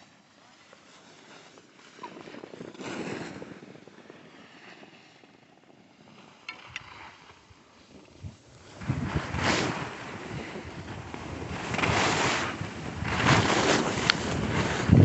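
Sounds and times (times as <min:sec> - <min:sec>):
skis scraping over snow: 0:00.0 - 0:15.0.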